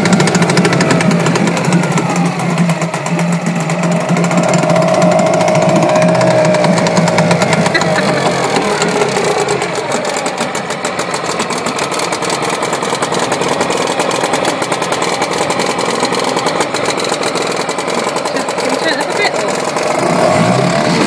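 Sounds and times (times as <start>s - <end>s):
outboard motor idling: 0.0s - 21.0s.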